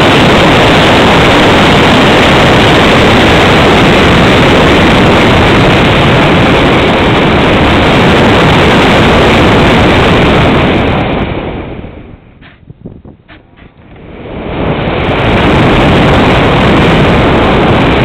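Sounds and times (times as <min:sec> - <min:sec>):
wind rush buffeting microphone: 0:00.0 - 0:18.0.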